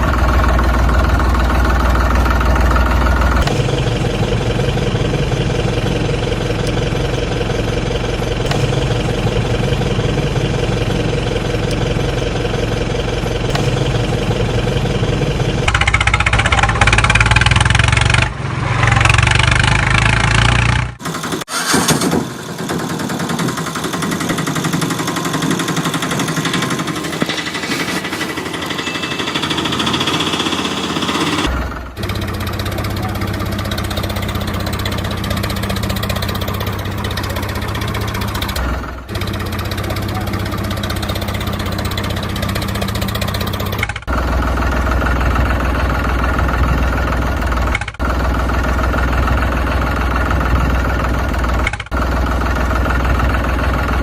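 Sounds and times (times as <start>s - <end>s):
small tractor engine running: 0.0s - 54.0s.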